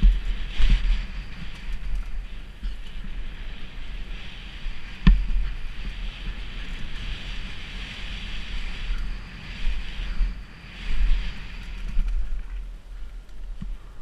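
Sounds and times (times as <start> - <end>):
bike tyres on dirt trail: 0.0 - 14.0
wind buffeting microphone: 0.0 - 14.0.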